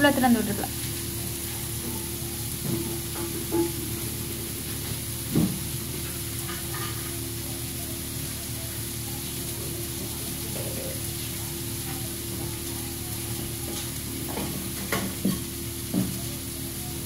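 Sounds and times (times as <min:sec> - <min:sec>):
vegetables sizzling on a griddle: 0:00.0 - 0:17.0.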